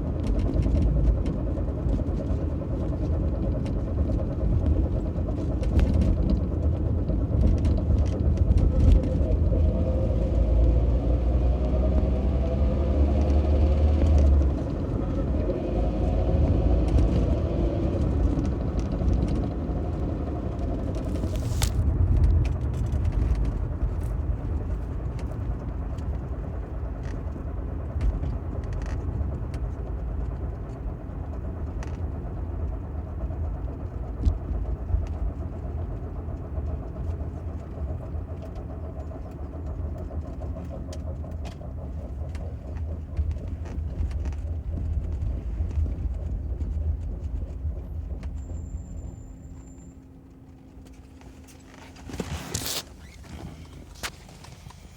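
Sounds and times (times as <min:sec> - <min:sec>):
car differential humming: 0:00.0 - 0:54.9
driving rumble: 0:00.0 - 0:54.9.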